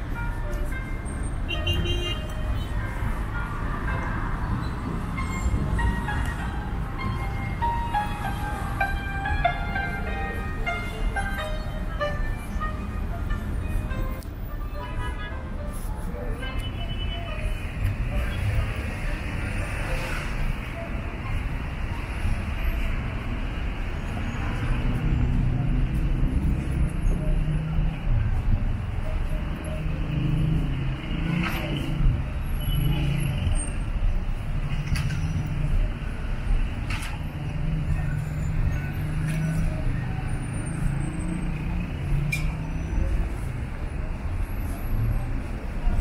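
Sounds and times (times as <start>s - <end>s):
city street traffic: 0.0s - 46.0s
vehicle rumble: 0.0s - 46.0s.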